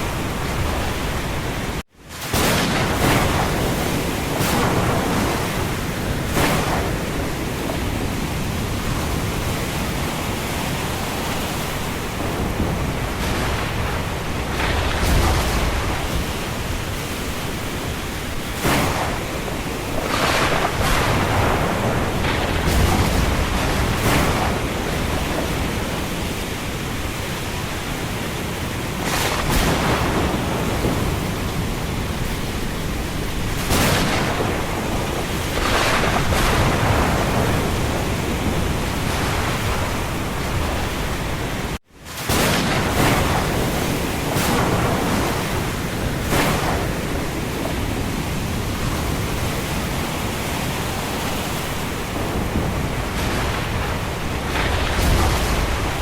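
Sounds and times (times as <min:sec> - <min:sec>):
heavy rain and wind: 0:00.0 - 0:56.0
low thunder rumbling: 0:00.0 - 0:56.0.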